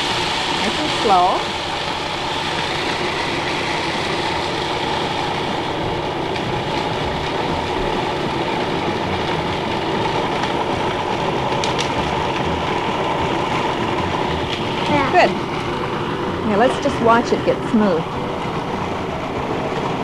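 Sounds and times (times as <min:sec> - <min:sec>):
food processor grinding: 0:00.0 - 0:20.0.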